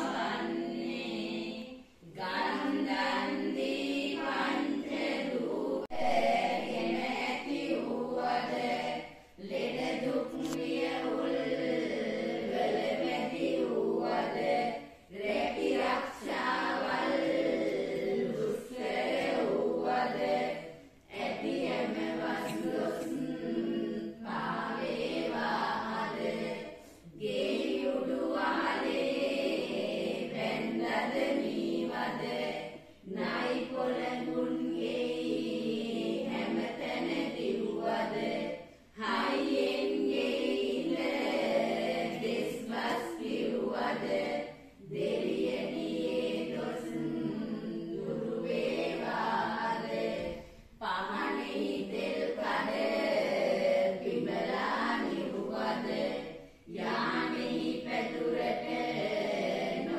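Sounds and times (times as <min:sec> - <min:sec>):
women chanting in unison: 0:00.0 - 0:59.9.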